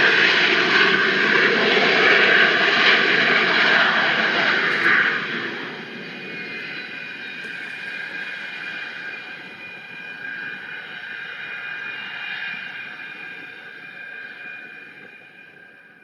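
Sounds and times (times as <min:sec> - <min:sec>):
jet engines whining and roaring: 0:00.0 - 0:16.0.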